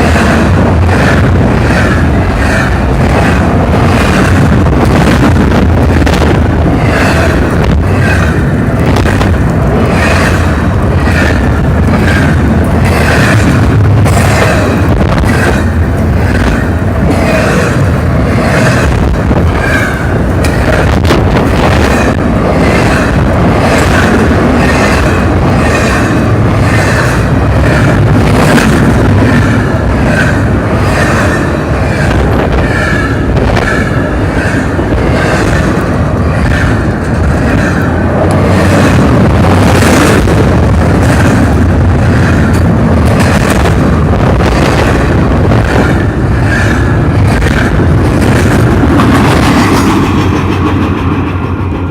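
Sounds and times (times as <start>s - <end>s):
freight train rolling past: 0.0s - 51.9s
wheels clacking over rail joints: 0.0s - 51.9s.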